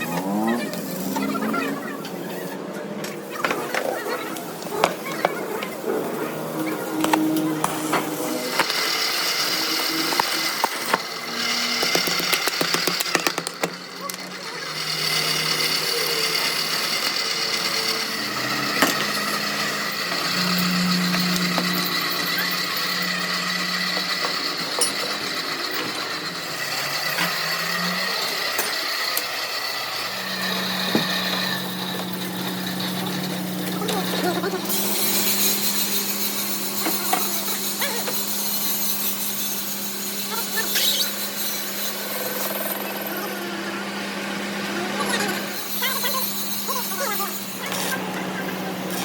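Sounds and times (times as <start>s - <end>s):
power tools running: 0.0s - 49.0s.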